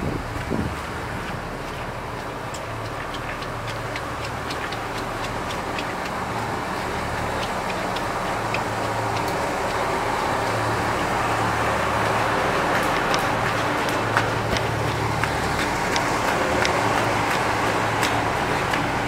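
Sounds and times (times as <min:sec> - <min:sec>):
diesel train engines idling: 0:00.0 - 0:19.0
light rain taps: 0:00.0 - 0:19.0.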